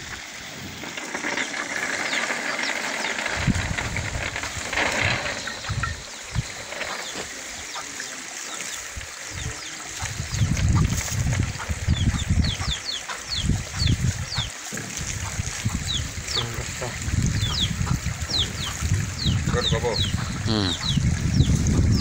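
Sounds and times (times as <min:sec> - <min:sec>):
water running from a hose: 0:00.0 - 0:22.0.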